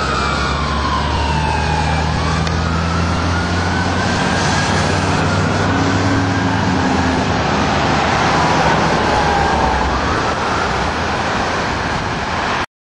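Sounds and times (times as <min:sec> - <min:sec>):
faint fire engine siren wailing: 0:00.0 - 0:12.6
passing car traffic: 0:00.0 - 0:12.7.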